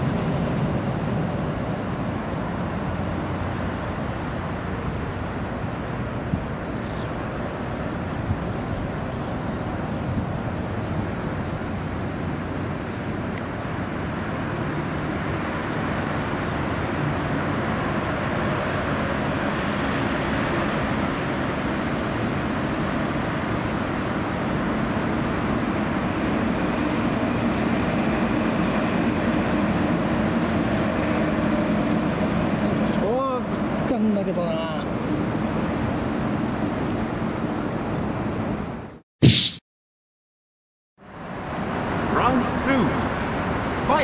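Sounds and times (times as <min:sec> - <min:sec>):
vehicle rumble: 0:00.0 - 0:39.0.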